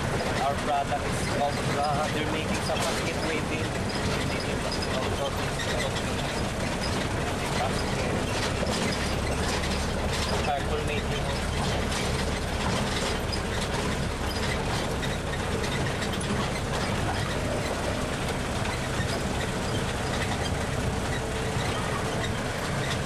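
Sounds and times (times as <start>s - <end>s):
tram car rattling: 0.0s - 23.0s
tram engine running: 0.0s - 23.0s.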